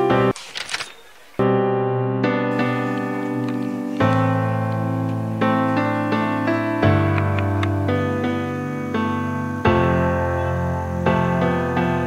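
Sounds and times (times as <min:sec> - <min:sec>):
sustained keyboard chords: 0:01.1 - 0:12.0.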